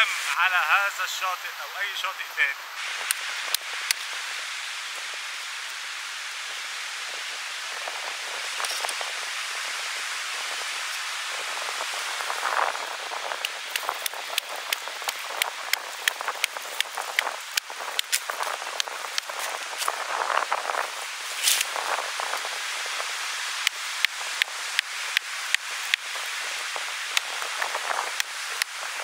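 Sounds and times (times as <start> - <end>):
surf hissing on a beach: 0.0 - 29.0.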